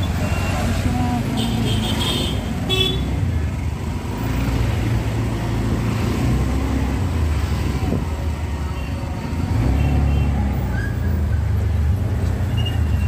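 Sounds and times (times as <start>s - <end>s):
low rumble of engines: 0.0s - 13.0s
motorbikes and cars passing: 0.0s - 13.0s.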